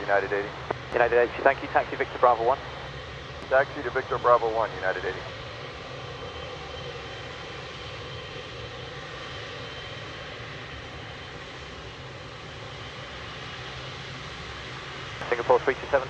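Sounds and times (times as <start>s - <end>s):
aircraft engines running: 0.0s - 16.0s.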